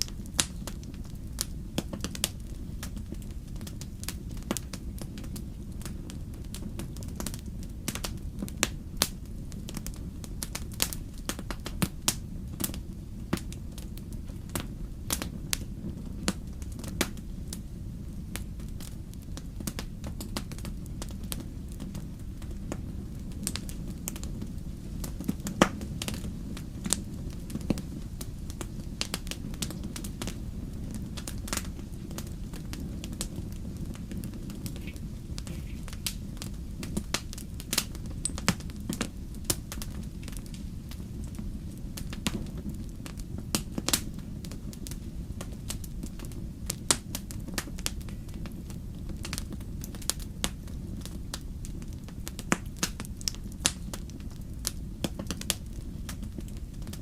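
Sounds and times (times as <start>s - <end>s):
fire popping and snapping: 0.0s - 57.0s
fire rumbling: 0.0s - 57.0s.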